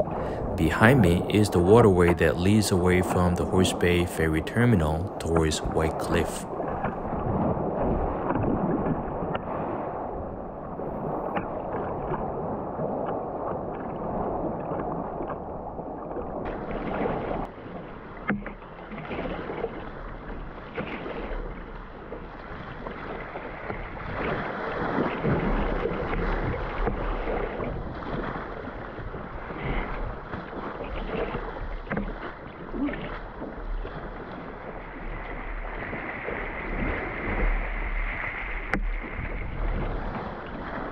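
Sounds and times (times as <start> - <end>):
water sloshing around boat: 0.0 - 10.0, 10.6 - 40.9
wind buffeting microphone: 0.0 - 18.1, 22.0 - 40.9
paddle splashing in water: 0.0 - 40.9.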